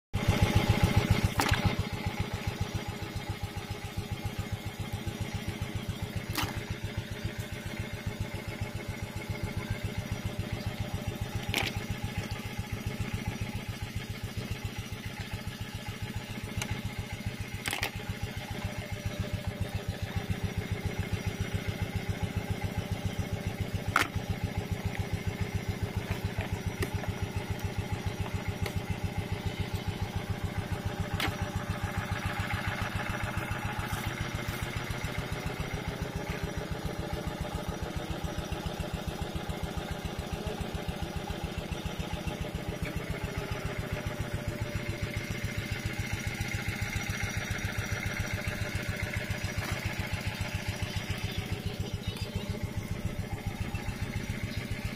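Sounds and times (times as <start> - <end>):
small engine idling: 0.2 - 54.9.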